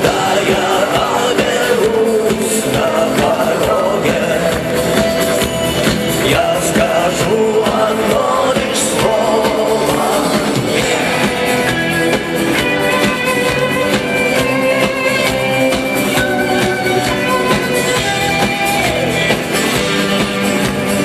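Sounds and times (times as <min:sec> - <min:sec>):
electric guitar: 0:00.0 - 0:21.0
rock band playing: 0:00.0 - 0:21.0
steady drum beat: 0:00.0 - 0:21.0.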